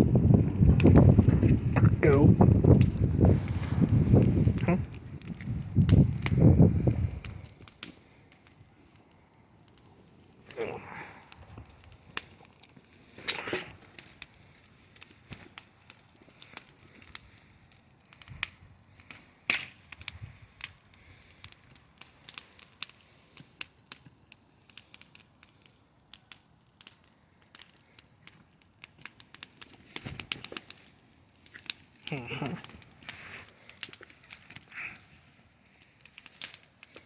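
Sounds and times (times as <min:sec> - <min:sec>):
bonfire crackling and popping: 0:00.0 - 0:37.0.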